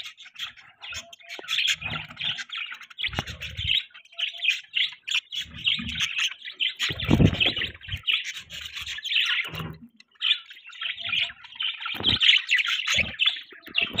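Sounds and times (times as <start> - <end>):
budgerigars chirping and chattering: 0.0 - 14.0.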